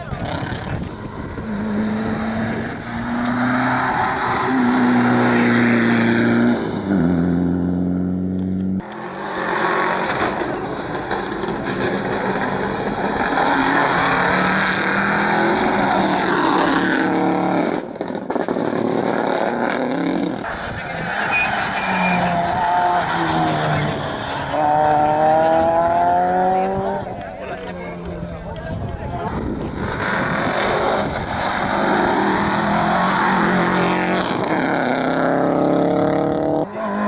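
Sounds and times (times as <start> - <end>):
rally car engines at full throttle: 0.0 - 37.0.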